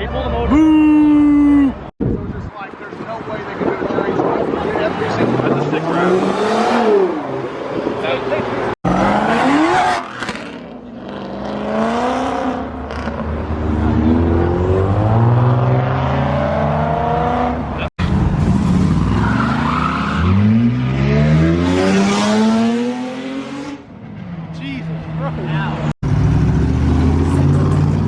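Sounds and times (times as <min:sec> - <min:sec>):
car engines revving: 0:02.8 - 0:28.0.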